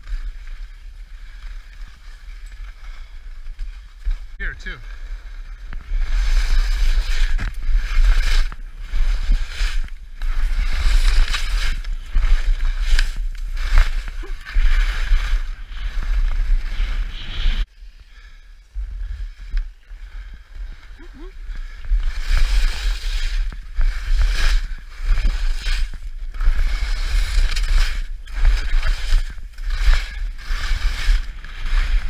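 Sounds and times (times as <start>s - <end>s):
skis scraping over snow: 0.0s - 17.7s, 19.0s - 32.0s
wind noise on microphone: 4.0s - 32.0s.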